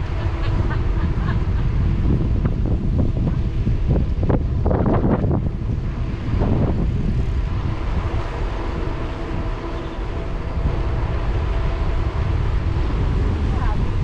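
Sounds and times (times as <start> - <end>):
tyre and drivetrain hum: 0.0 - 14.0
wind buffeting microphone: 0.0 - 14.0.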